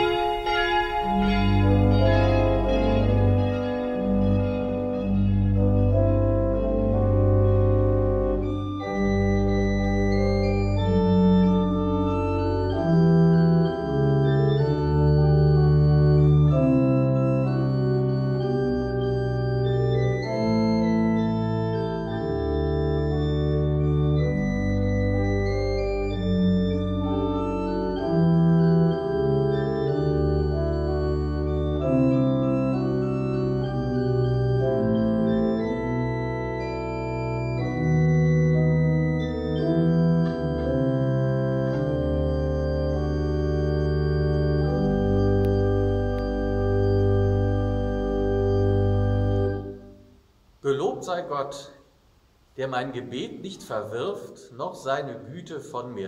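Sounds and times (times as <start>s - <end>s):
pipe organ playing chords: 0.0s - 51.6s.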